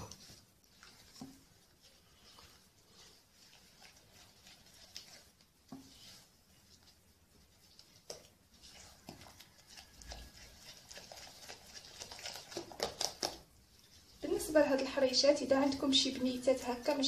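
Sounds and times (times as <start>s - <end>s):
spatula stirring thick batter: 0.0s - 17.0s.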